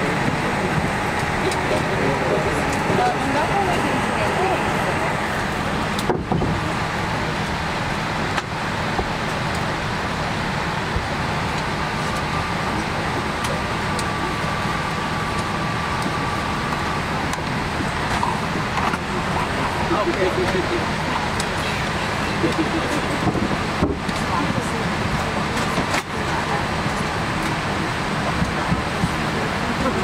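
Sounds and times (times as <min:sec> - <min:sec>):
ventilation air rushing: 0:00.0 - 0:30.0.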